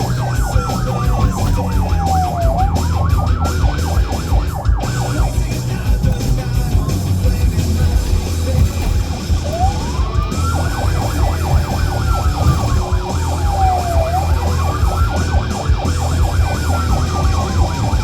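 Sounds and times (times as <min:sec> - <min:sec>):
yelping siren: 0:00.0 - 0:06.2, 0:08.6 - 0:18.0
engine and road rumble: 0:00.0 - 0:18.0
wailing siren: 0:00.0 - 0:18.0.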